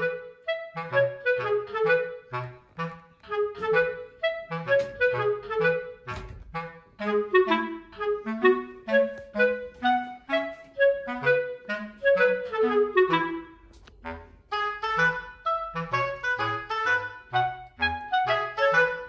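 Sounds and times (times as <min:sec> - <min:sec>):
woodwind melody with bass line: 0:00.0 - 0:19.0.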